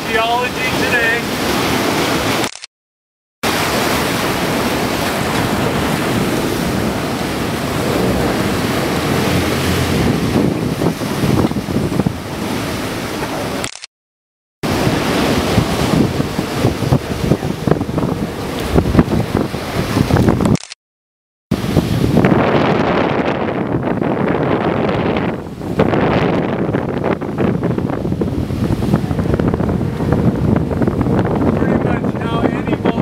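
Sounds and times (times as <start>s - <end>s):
ocean waves: 0.0s - 2.7s, 3.4s - 13.8s, 14.6s - 20.6s, 21.5s - 33.0s
wind buffeting microphone: 3.5s - 13.6s, 14.6s - 20.6s, 21.5s - 33.0s.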